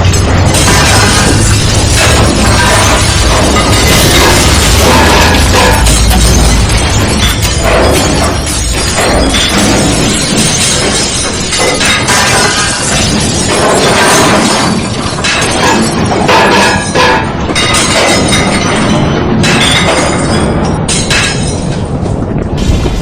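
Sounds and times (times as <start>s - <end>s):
glass shattering: 0.0s - 21.9s
things breaking and crashing: 0.0s - 23.0s.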